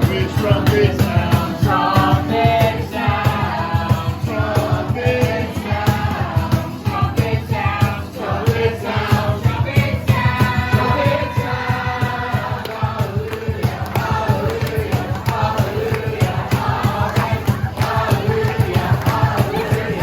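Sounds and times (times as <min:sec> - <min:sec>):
group singing: 0:00.0 - 0:20.0
music with steady beat: 0:00.0 - 0:20.0.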